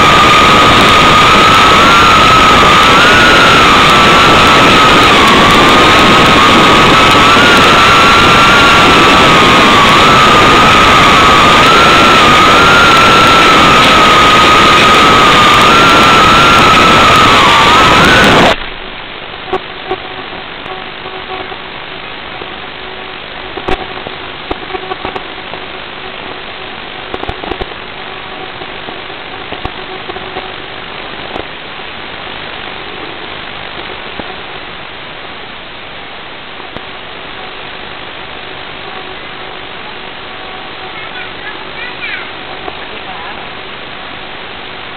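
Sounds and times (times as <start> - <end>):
drone motors whining: 0.0 - 31.5, 36.6 - 44.9.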